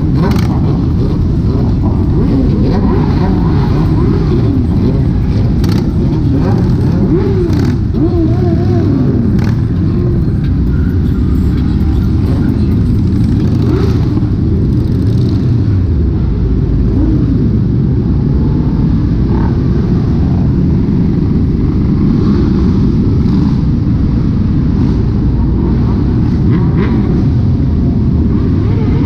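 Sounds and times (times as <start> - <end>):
motorcycle engines rumbling: 0.0 - 29.0.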